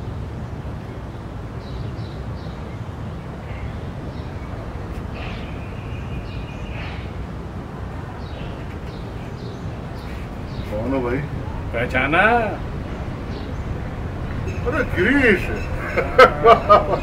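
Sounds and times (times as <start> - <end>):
birds chirping: 0.0 - 17.0
low outdoor rumble: 0.0 - 17.0.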